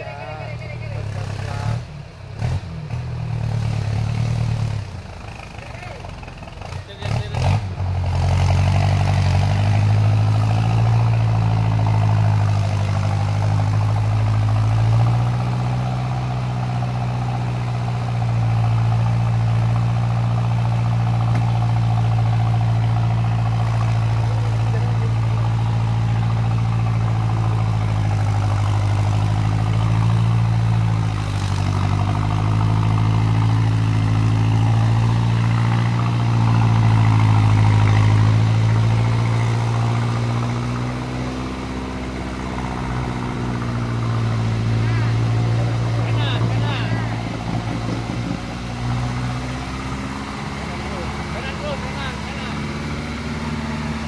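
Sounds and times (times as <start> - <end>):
vehicle engine labouring in mud: 0.0 - 54.0.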